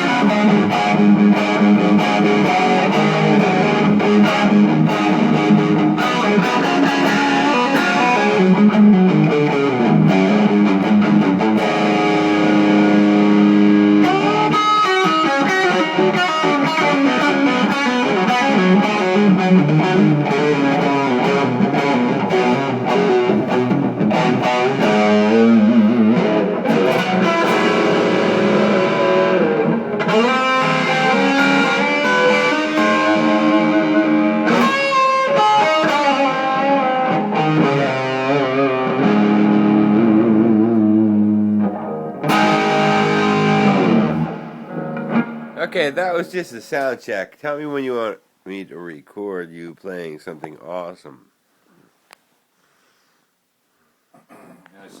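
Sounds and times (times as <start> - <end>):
electric guitar with effects: 0.0 - 45.7.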